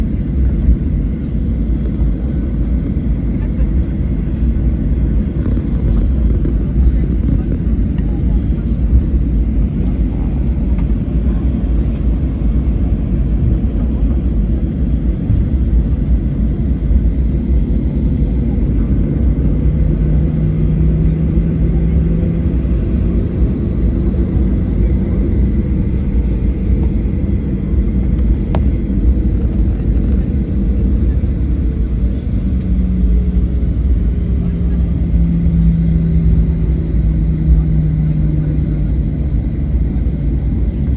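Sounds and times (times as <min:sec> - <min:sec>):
jet engine rumble: 0:00.0 - 0:40.9.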